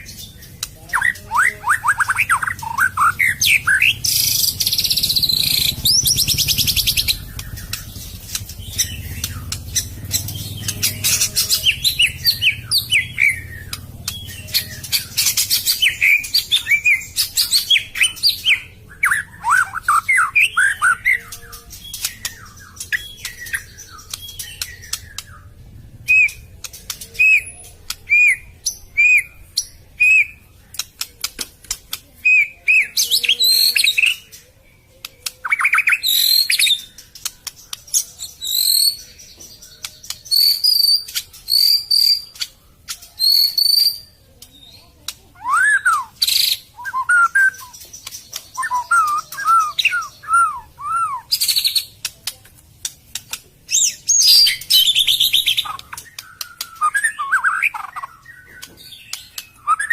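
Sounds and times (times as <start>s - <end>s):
songbird singing whistles and trills: 0.0s - 30.8s, 32.2s - 52.0s, 53.7s - 59.9s.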